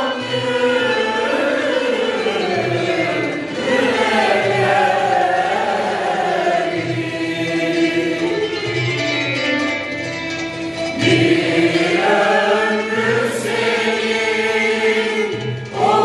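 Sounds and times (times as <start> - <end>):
mixed choir singing: 0.0 - 8.6, 10.9 - 16.0.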